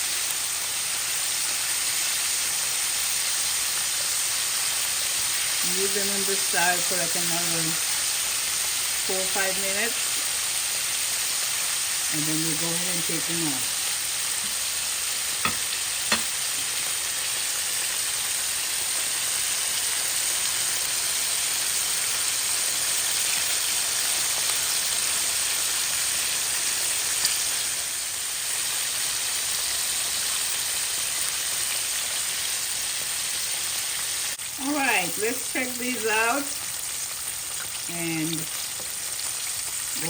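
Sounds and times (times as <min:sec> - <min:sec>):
wings deep-frying in oil: 0:00.0 - 0:40.0.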